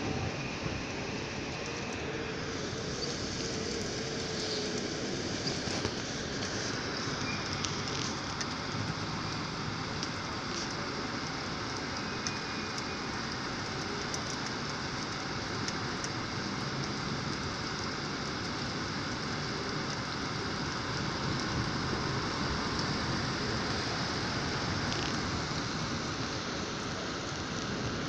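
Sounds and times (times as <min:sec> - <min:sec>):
heavy rain on a street: 0:00.0 - 0:28.0
car driving on wet road: 0:00.1 - 0:28.0.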